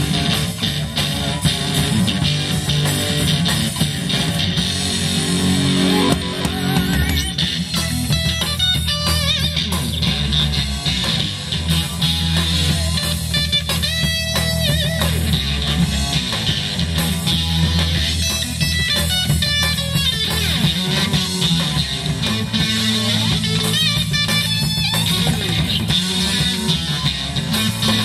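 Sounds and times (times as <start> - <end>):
bass guitar: 0.0 - 28.0
drum kit: 0.0 - 28.0
electric guitar: 0.0 - 28.0.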